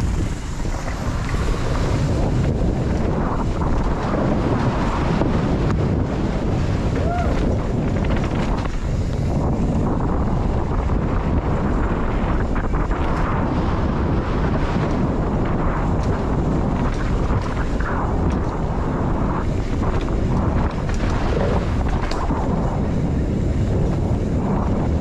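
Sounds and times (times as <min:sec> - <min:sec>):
bike clicks and knocks: 0:00.0 - 0:13.4, 0:14.0 - 0:25.0
wind rush on microphone: 0:00.0 - 0:25.0.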